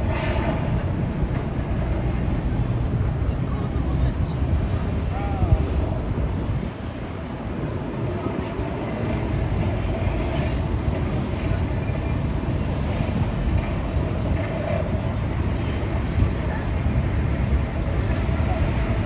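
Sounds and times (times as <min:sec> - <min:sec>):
faint voices of passers-by: 0:00.0 - 0:19.0
traffic rumble: 0:00.0 - 0:19.0.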